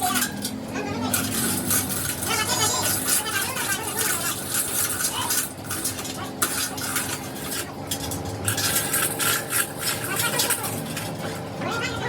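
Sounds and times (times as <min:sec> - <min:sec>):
metal clinking and scraping: 0:00.0 - 0:11.5.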